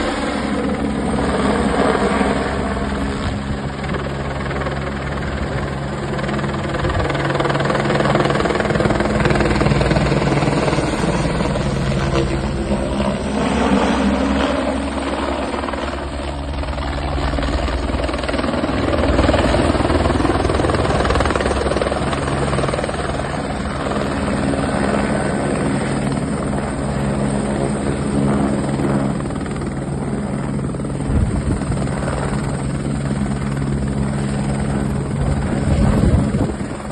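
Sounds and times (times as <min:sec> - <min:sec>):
helicopter rotor drone: 0:00.0 - 0:36.9.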